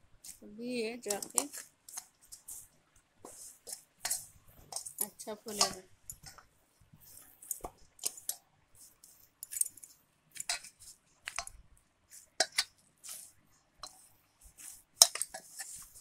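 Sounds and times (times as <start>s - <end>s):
dough squishing and slapping: 0.0s - 16.0s.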